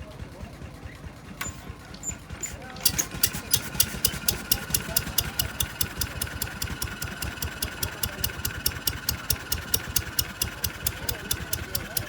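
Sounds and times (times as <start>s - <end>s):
stationary engine idling: 0.0s - 12.0s.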